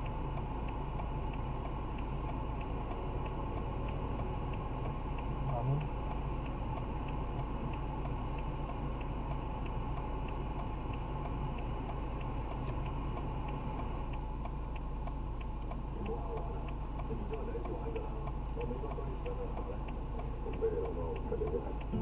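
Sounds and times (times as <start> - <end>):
car engine idling: 0.0 - 22.0
turn signal ticking: 0.0 - 22.0.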